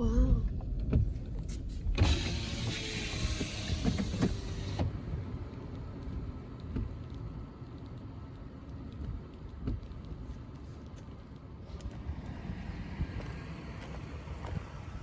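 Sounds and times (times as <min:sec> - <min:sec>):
vehicle rumbling on rough trail: 0:00.3 - 0:15.0.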